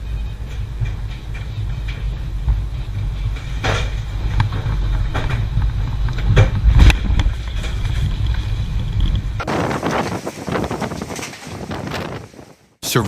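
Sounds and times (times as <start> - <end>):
clatter and knocks: 0.0 - 12.3
storm wind buffeting microphone: 0.0 - 12.8.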